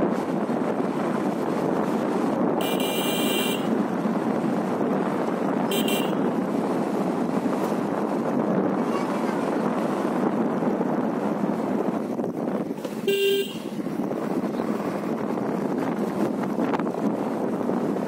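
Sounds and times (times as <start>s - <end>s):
motorcycle wind and road noise: 0.0s - 18.0s.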